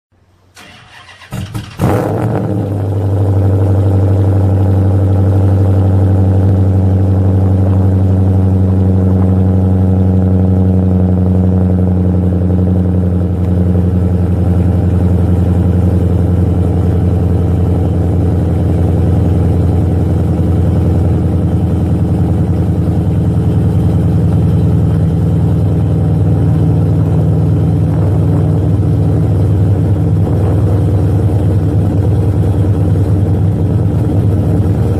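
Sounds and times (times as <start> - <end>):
deep engine idle: 2.6 - 34.9.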